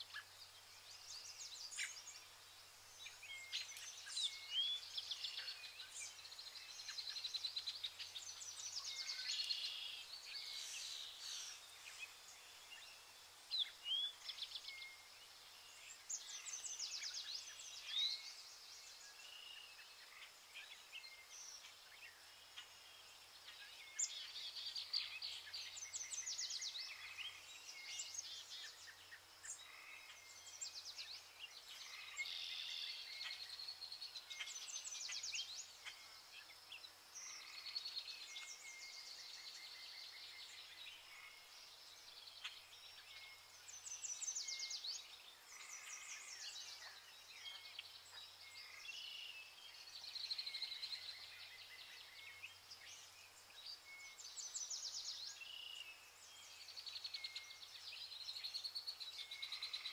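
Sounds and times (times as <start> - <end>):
songbirds singing fast trills: 0.0 - 59.9.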